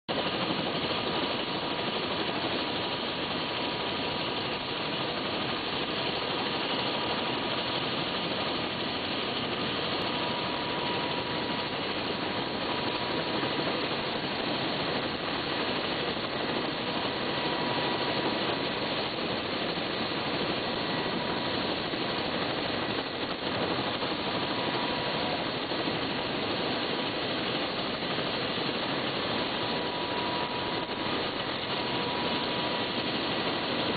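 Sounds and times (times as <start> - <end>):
helicopter turbine whine: 0.1 - 33.9.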